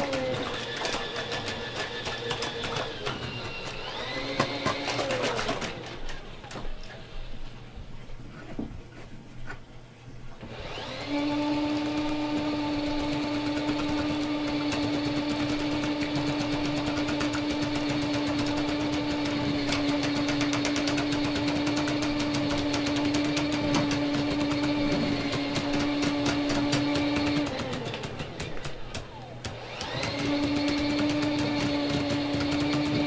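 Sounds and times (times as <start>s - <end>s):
drain cleaning machine motor: 0.0s - 7.7s, 10.4s - 33.0s.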